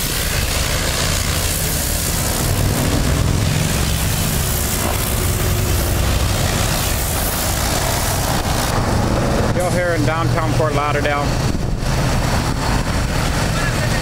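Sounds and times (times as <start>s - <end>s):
engine droning: 0.0s - 14.0s
pressure washer hiss: 0.0s - 14.0s.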